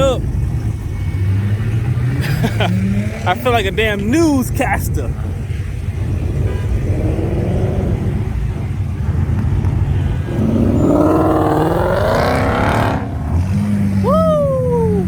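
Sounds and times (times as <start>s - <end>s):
engine revving: 0.0s - 3.8s, 5.1s - 15.0s
car engines running: 0.0s - 15.0s.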